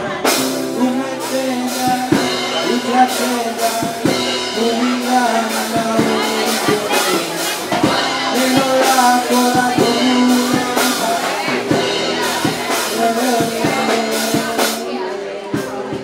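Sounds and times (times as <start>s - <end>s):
drum kit beat: 0.0s - 16.0s
live band playing: 0.0s - 16.0s
person singing: 0.0s - 16.0s.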